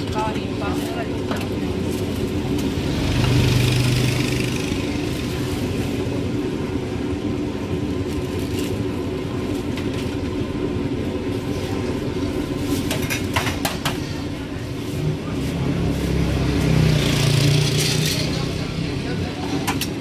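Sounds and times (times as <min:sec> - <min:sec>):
street rumble: 0:00.0 - 0:20.0.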